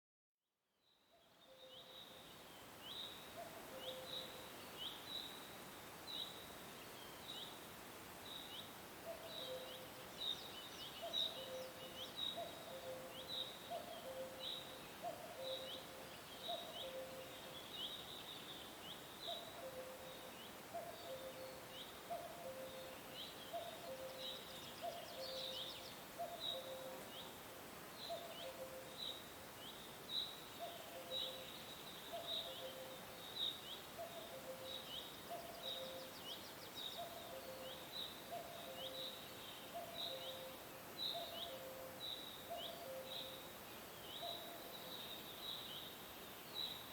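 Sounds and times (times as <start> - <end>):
faint steady hiss: 0.7 - 46.9.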